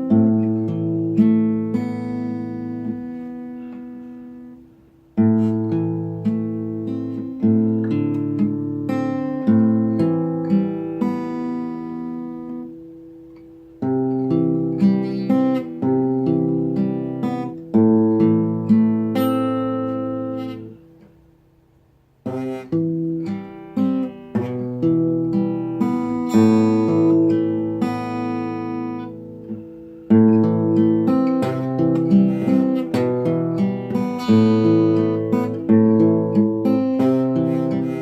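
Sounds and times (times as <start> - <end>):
acoustic guitar slow chords: 0.0 - 38.0.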